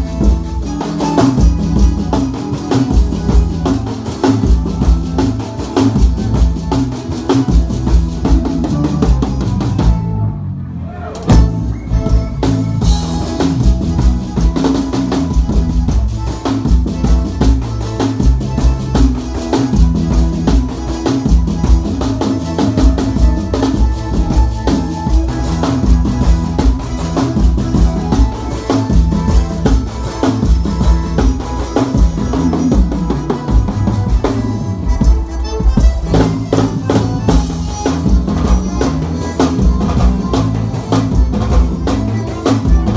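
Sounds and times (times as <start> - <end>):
drum kit steady beat: 0.0 - 10.1, 11.2 - 42.9
instrumental band music: 0.0 - 42.9
moving bass lines: 0.0 - 42.9.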